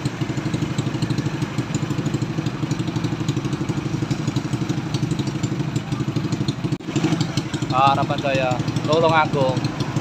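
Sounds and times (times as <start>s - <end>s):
motorcycle engine idling: 0.0s - 10.0s
street traffic: 0.0s - 10.0s.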